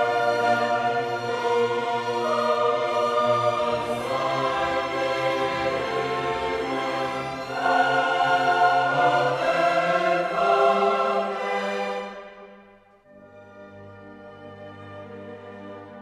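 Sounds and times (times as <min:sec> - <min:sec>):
choir singing with orchestra: 0:00.0 - 0:16.0.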